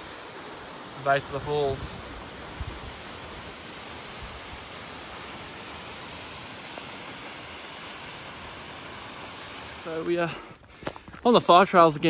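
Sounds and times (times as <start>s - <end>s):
waterfall rushing hiss: 0.0s - 12.0s.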